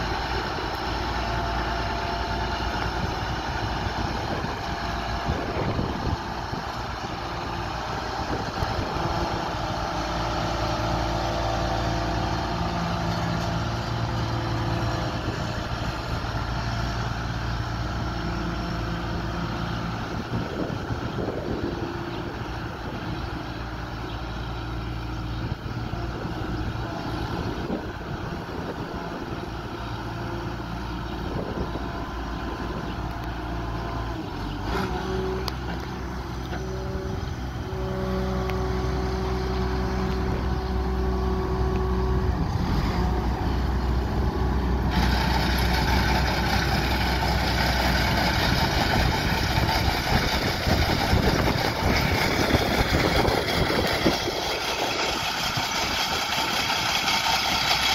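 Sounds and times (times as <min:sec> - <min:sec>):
combine diesel engine running: 0:00.0 - 0:57.9.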